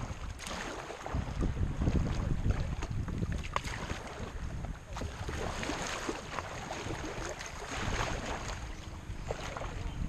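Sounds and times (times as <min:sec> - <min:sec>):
water splashing against kayak hull: 0:00.0 - 0:10.0.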